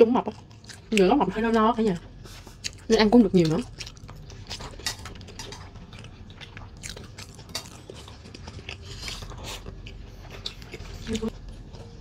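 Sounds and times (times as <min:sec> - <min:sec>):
mouth chewing food clicks: 0:00.2 - 0:12.0.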